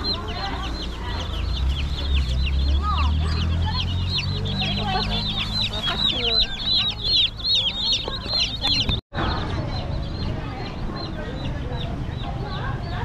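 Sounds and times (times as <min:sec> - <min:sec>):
chickens peeping: 0:00.0 - 0:13.0.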